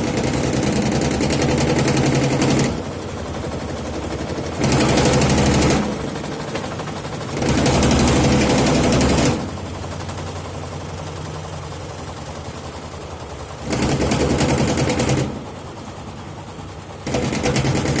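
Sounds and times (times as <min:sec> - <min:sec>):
washing machine hum: 0:00.0 - 0:18.0.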